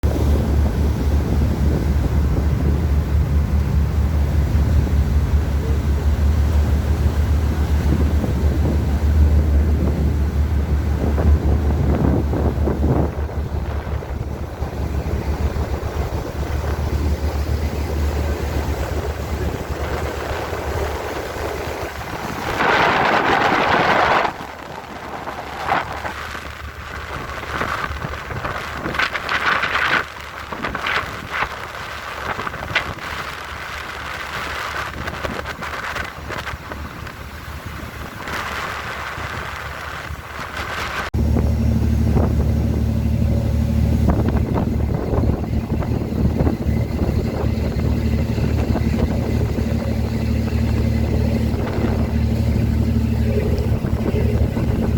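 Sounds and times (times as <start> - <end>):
boat engine drone: 0.0 - 54.9
wind buffeting microphone: 0.0 - 54.9.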